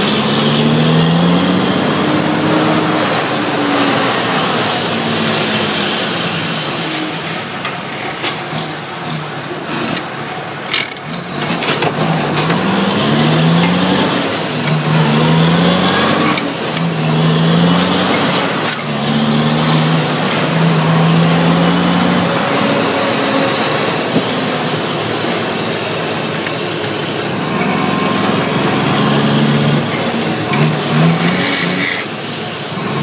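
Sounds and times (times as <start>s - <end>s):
diesel truck engine accelerating: 0.0s - 33.0s.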